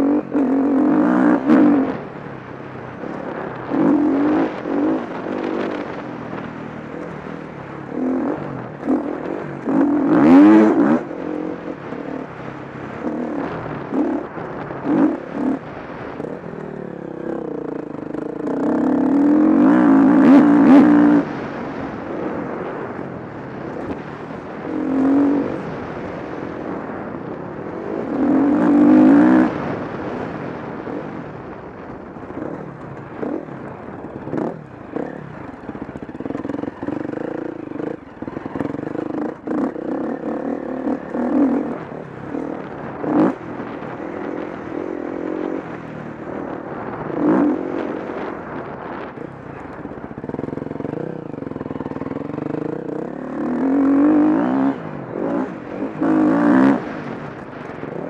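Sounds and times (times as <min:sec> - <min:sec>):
motocross bike engine revving: 0:00.0 - 0:02.1, 0:03.1 - 0:23.0, 0:23.6 - 0:26.9, 0:27.7 - 0:31.2, 0:32.3 - 0:58.0.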